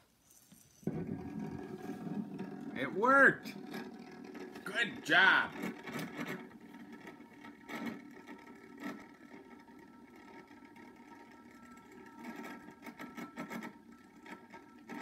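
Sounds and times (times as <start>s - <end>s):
toy gyroscope whirring: 0.1s - 15.0s.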